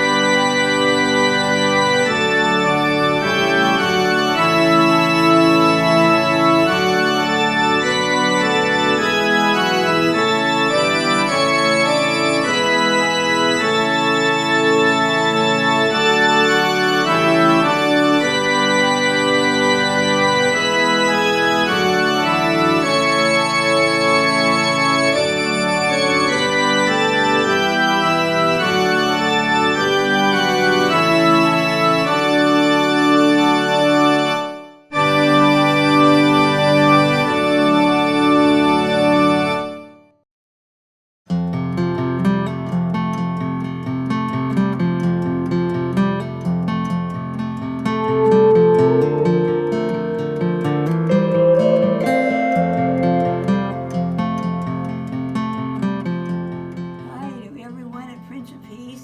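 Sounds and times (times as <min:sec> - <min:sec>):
organ chords: 0:00.0 - 0:39.8, 0:47.8 - 0:56.0.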